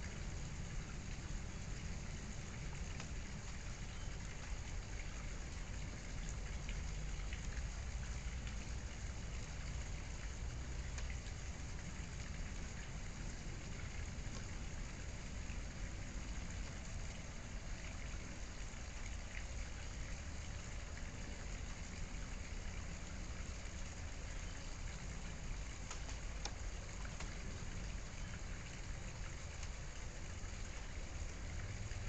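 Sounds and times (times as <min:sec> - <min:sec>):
faint scattered ticks: 0:00.0 - 0:32.0
steady hissing noise: 0:00.0 - 0:32.0.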